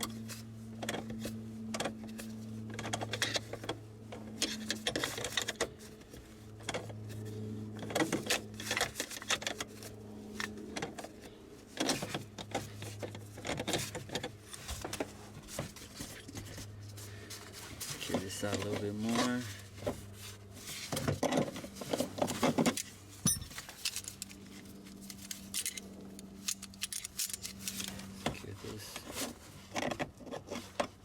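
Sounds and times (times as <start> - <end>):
steady low hum: 0.0 - 29.6.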